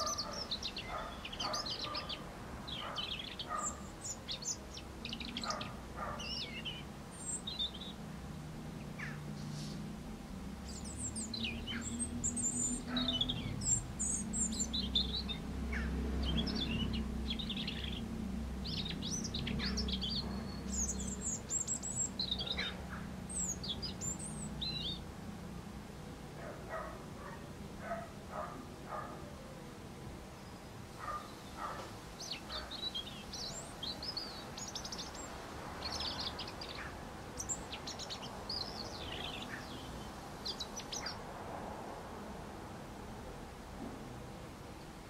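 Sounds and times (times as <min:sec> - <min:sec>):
robin singing: 0:00.0 - 0:25.2, 0:30.4 - 0:41.2.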